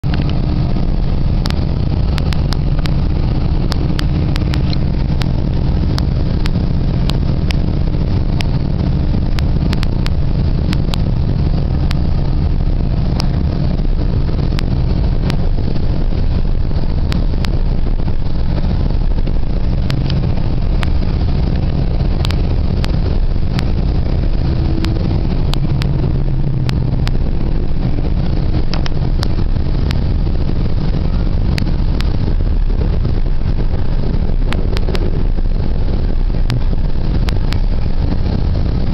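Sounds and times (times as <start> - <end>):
train clicks and rattles: 0.0 - 38.9
train rumbling inside coach: 0.0 - 38.9.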